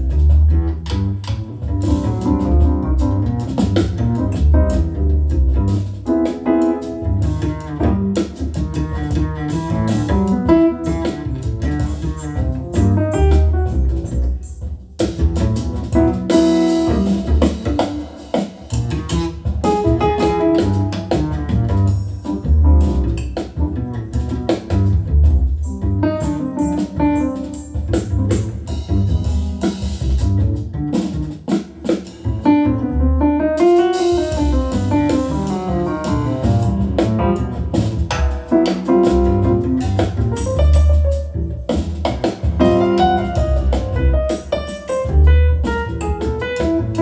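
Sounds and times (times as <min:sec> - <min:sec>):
piano trio music over loudspeakers: 0:00.0 - 0:31.5, 0:32.2 - 0:47.0.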